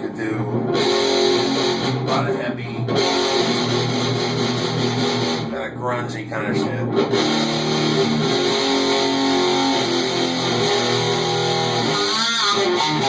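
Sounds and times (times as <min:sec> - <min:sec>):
fuzz electric guitar: 0:00.0 - 0:13.0.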